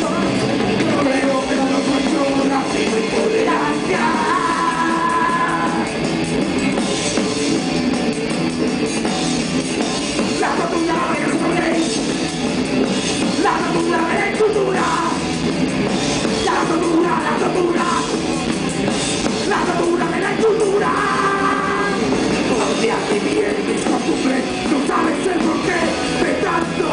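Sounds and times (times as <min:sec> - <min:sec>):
live punk rock band: 0:00.0 - 0:26.9.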